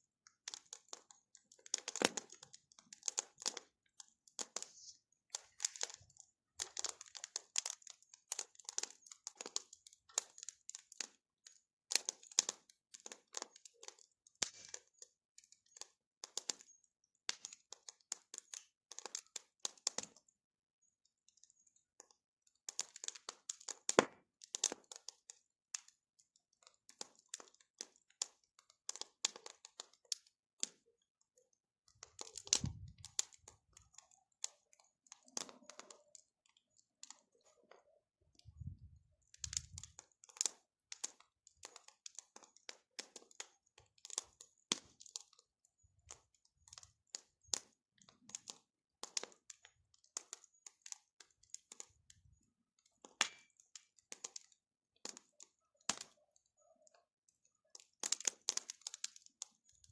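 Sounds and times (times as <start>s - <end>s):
bonfire crackling and popping: 0.1s - 20.4s, 21.2s - 57.0s, 57.6s - 59.9s.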